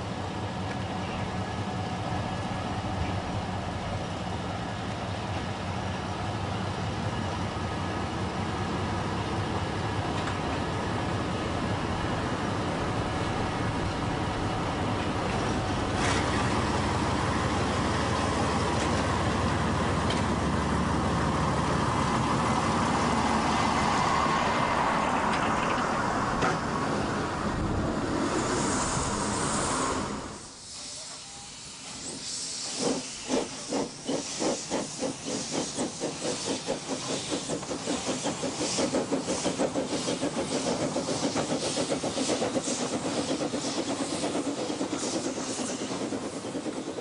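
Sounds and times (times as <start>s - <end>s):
diesel railcar engine droning: 0.0s - 47.0s.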